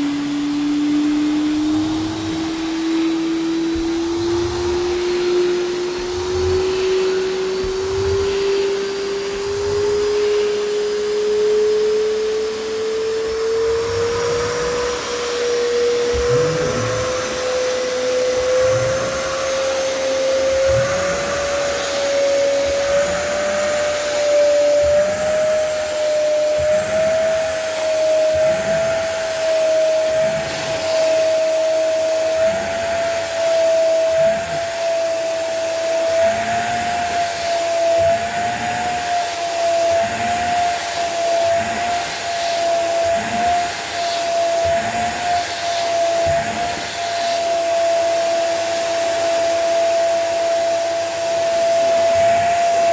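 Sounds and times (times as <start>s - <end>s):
vacuum strokes swishing on carpet: 0.0s - 52.9s
wet vacuum cleaner motor whine: 0.0s - 52.9s.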